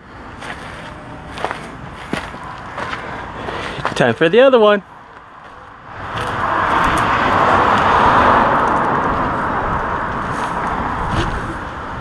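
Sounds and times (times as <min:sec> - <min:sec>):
car passing on road: 0:00.0 - 0:12.0.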